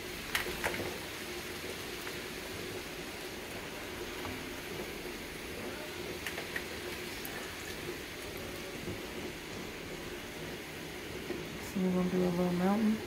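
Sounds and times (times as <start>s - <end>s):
pots boiling and bubbling: 0.0s - 13.0s.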